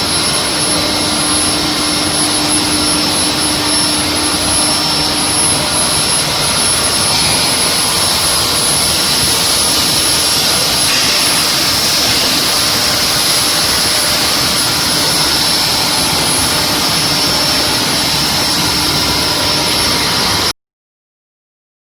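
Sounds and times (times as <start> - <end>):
loud machine hiss: 0.0 - 20.5
high-pitched machine whine: 0.0 - 20.6.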